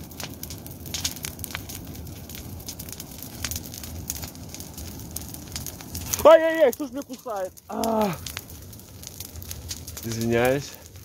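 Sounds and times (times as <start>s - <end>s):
bonfire burning with low rush: 0.0s - 11.0s
fire crackles and pops: 0.0s - 11.0s.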